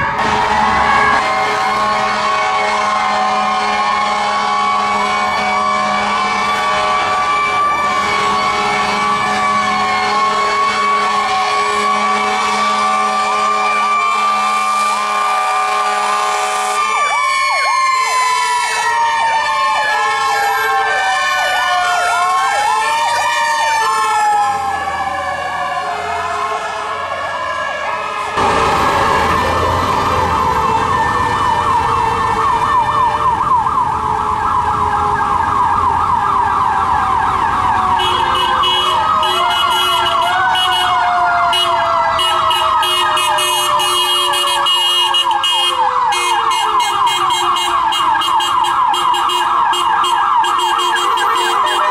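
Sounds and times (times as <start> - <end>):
electronic yelp sirens: 0.0 - 51.9.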